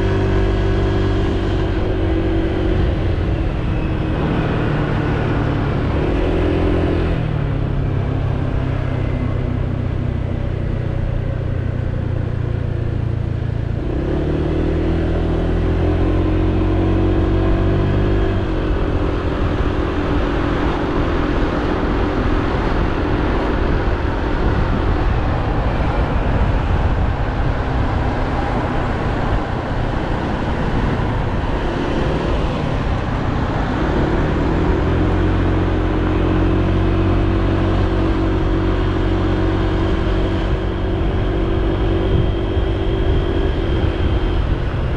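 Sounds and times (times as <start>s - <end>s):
wind and road rush: 0.0s - 44.9s.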